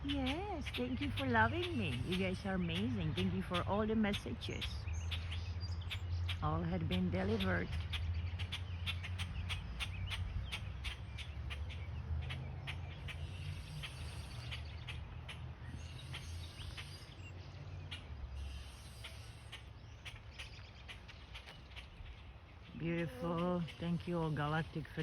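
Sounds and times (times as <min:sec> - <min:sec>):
birds chirping: 0:00.0 - 0:25.0
low steady rumble: 0:00.0 - 0:25.0.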